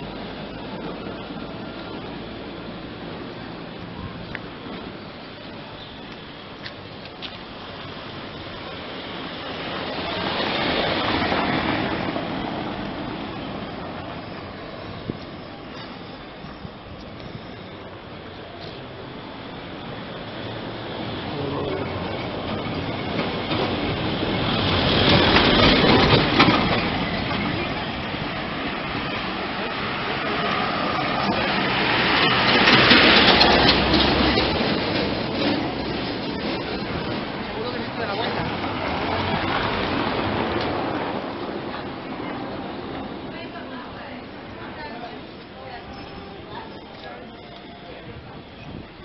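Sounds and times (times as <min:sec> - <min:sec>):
car passing on cobblestones: 0:00.0 - 0:49.0
sharp clacks of tram: 0:00.0 - 0:49.0
tram rattling on rails: 0:00.0 - 0:49.0.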